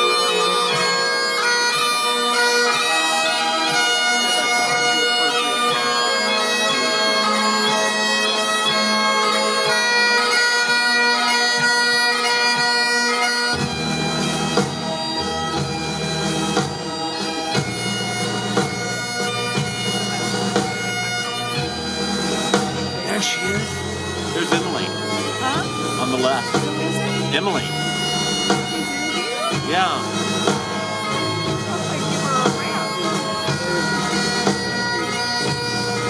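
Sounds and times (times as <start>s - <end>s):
bagpipes playing a tune: 0.0s - 36.0s.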